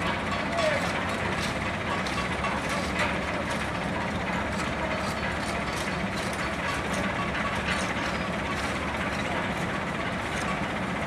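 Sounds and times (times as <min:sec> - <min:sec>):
metallic clicks and clanks: 0:00.0 - 0:09.7.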